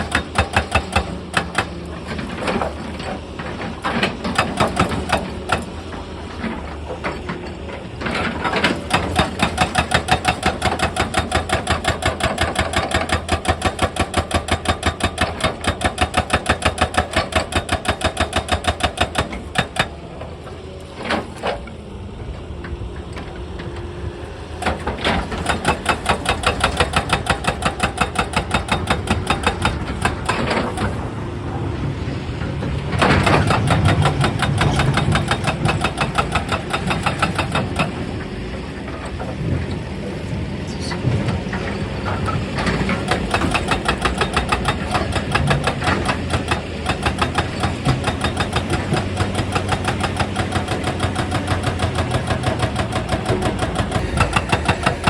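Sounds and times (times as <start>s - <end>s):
hydraulic breaker hammering rock: 0.0s - 7.3s, 8.0s - 21.5s, 24.6s - 31.3s, 32.8s - 39.3s, 41.7s - 55.0s
excavator engine running: 0.0s - 55.0s.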